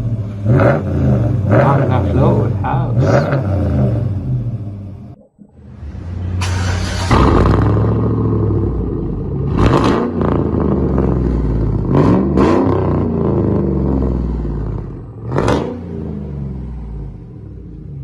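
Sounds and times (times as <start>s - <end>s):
truck straight-pipe exhaust revving: 0.0s - 18.0s.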